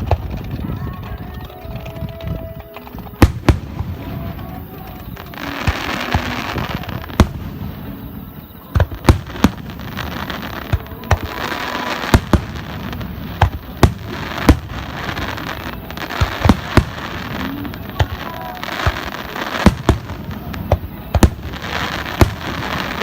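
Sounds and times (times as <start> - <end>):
continuous noisy background: 0.0 - 23.0
firework bursts banging: 0.0 - 23.0.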